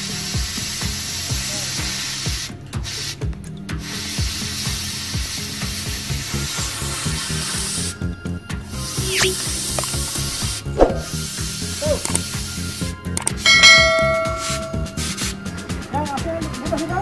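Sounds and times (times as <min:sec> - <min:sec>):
cutting torch hissing: 0:00.0 - 0:15.8
background music: 0:00.0 - 0:17.0.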